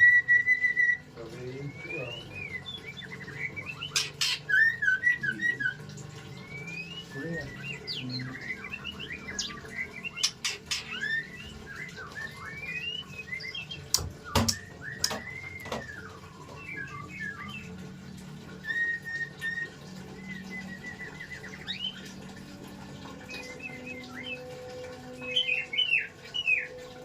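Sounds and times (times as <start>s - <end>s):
bird singing whistled phrases: 0.0s - 17.8s, 18.6s - 22.2s, 23.2s - 26.8s.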